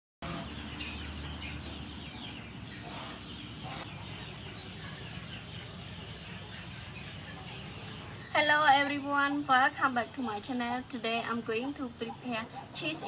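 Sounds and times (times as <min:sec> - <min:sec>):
birds calling: 0:00.2 - 0:13.0.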